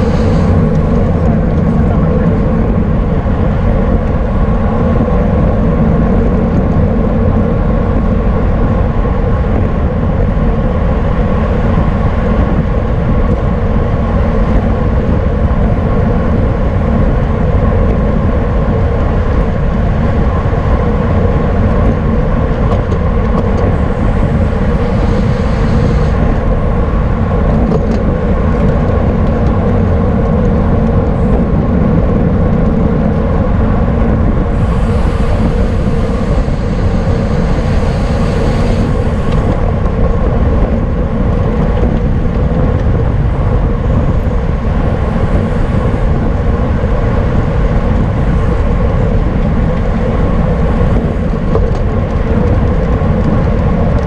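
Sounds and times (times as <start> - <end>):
road and drivetrain noise: 0.0 - 54.0
wind rushing on microphone: 0.0 - 54.0.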